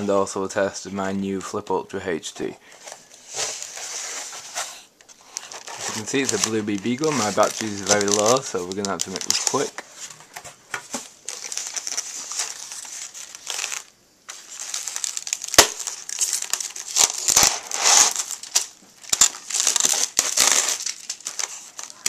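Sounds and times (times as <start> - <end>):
plastic film crinkling: 2.8 - 22.0.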